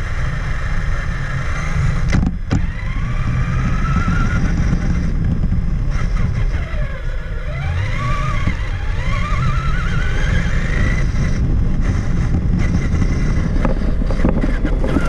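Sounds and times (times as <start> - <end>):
electric motor whining: 0.0 - 15.0
tyres rumbling over ground: 0.0 - 15.0.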